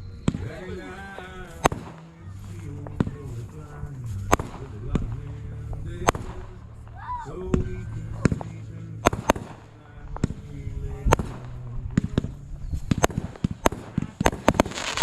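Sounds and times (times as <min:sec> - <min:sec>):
fireworks crackling: 0:00.0 - 0:15.0
fireworks bangs and pops: 0:00.2 - 0:06.5, 0:07.5 - 0:15.0.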